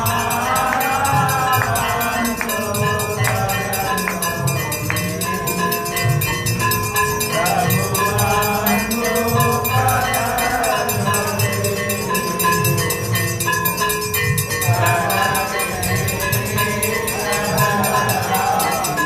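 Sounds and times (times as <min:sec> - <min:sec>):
voices singing a devotional hymn: 0:00.0 - 0:13.5, 0:14.4 - 0:19.0
bells and cymbals ringing: 0:00.0 - 0:19.0.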